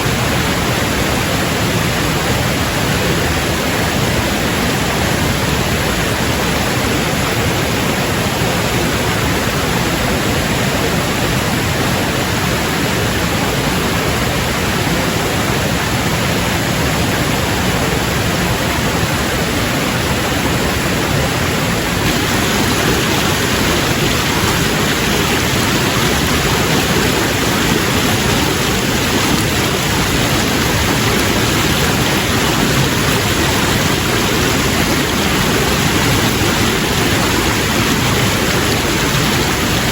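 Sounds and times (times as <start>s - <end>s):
loud steady rushing noise: 0.0s - 39.9s.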